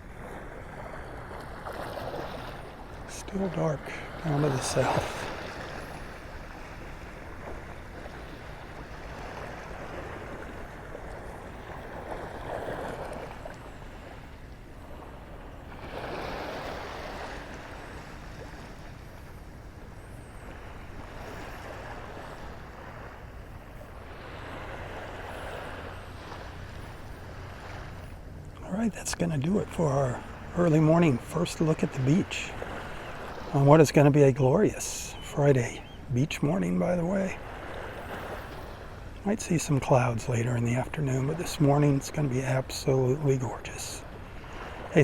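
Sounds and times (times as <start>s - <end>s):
small waves lapping on shore: 0.0s - 45.0s
surf hiss: 0.0s - 45.0s.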